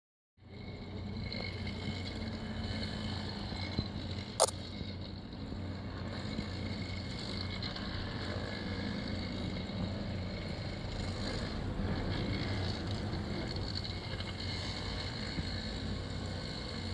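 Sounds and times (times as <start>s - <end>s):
machinery engine drone: 0.4s - 16.9s.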